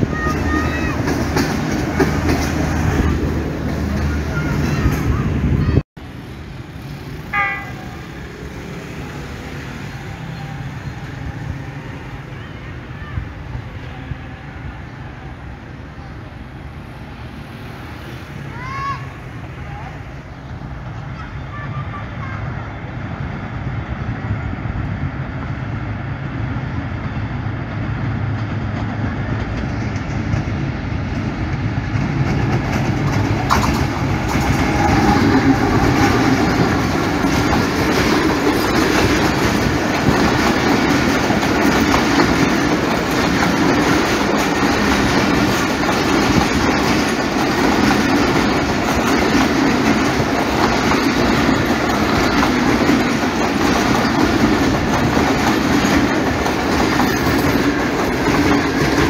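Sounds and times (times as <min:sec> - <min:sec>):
diesel locomotive engine passing: 0:00.0 - 0:59.0
train coaches rolling on rails: 0:00.0 - 0:59.0.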